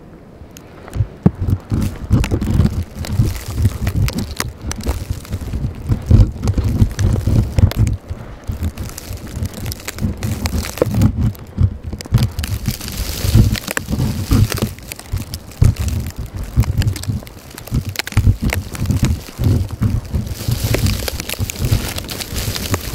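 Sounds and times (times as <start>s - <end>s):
wind buffeting microphone: 0.3s - 22.9s.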